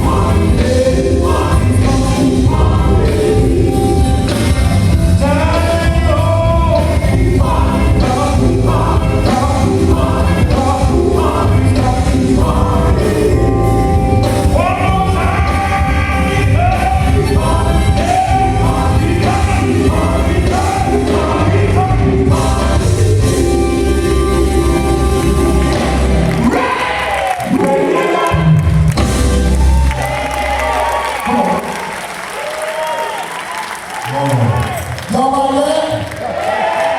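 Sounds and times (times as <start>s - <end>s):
band with beat and bass: 0.0s - 31.8s
gospel choir singing: 0.0s - 31.8s.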